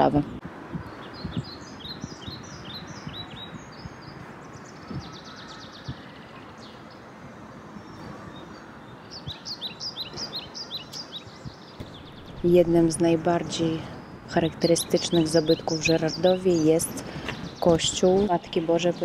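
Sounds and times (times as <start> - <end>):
outdoor background hiss: 0.0 - 19.0
small birds chirping: 0.0 - 19.0.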